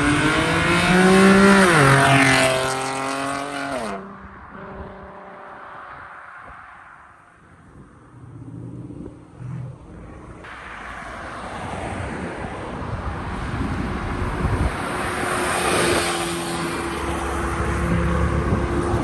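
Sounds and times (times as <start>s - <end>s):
car approaching: 0.0s - 19.0s.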